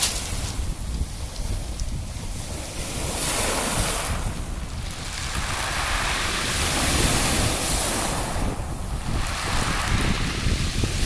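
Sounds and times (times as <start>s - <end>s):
waves breaking on pebble beach: 0.0s - 11.0s
wind buffeting microphone: 0.0s - 11.0s.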